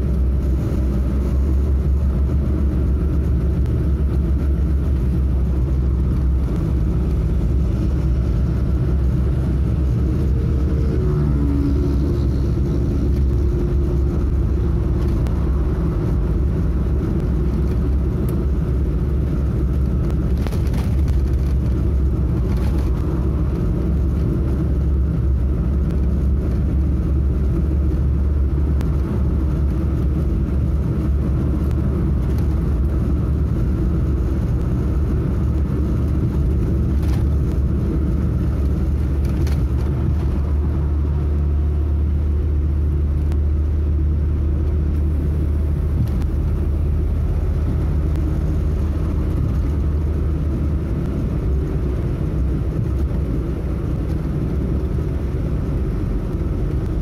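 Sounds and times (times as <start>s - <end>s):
car cruising interior drone: 0.0s - 57.0s.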